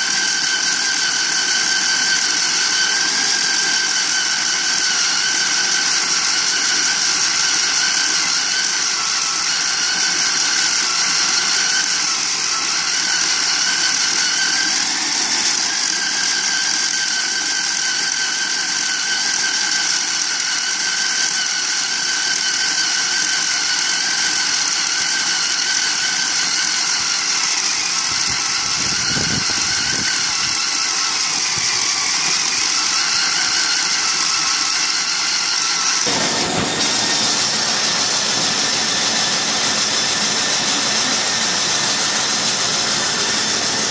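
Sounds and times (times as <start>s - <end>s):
core drill grinding concrete: 0.0s - 43.9s.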